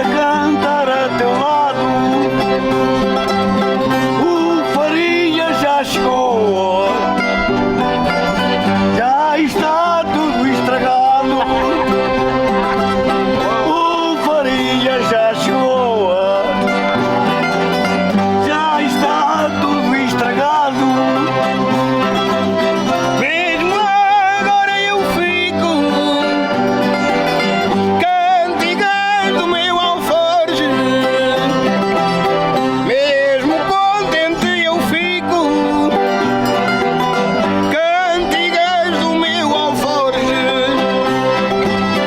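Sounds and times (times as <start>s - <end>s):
accordion: 0.0s - 42.0s
plucked string instruments: 0.0s - 42.0s
voices singing with vibrato: 0.0s - 42.0s.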